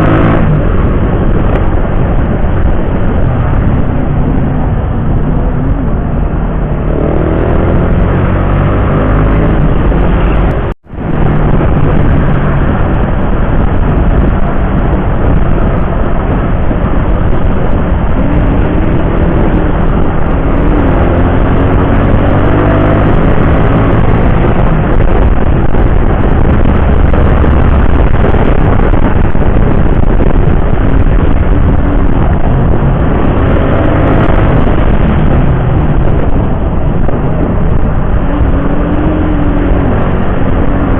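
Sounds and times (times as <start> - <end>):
motorcycle engine running: 0.0 - 40.9
wind rush: 0.0 - 40.9.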